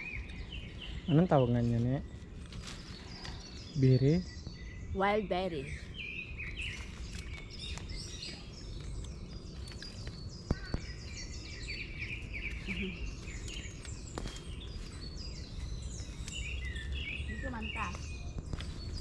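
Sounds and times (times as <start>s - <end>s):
birds chirping: 0.0s - 19.0s
low wind rumble: 0.0s - 19.0s.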